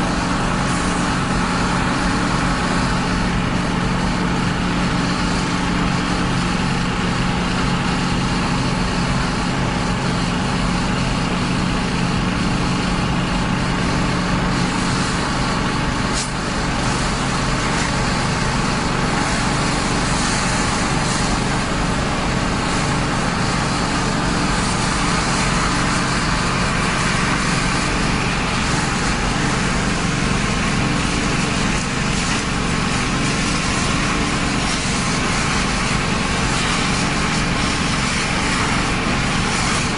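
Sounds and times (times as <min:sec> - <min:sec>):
water spray hissing: 0:00.0 - 0:07.1, 0:12.6 - 0:39.9
diesel truck engine running: 0:00.0 - 0:39.9.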